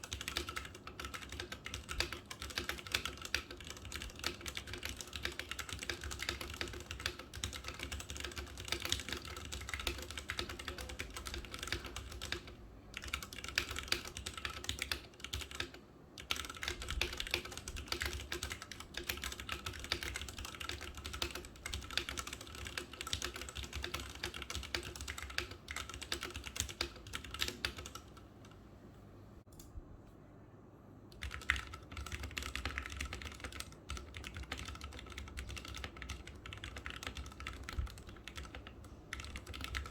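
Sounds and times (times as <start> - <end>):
mechanical keyboard typing: 0.0 - 28.6, 31.1 - 39.9.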